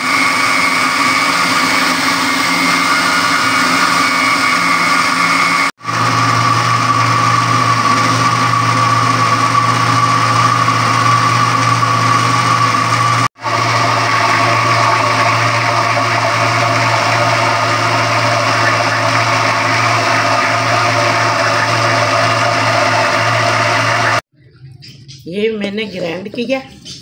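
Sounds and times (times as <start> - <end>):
blender motor whine: 0.0 - 24.3.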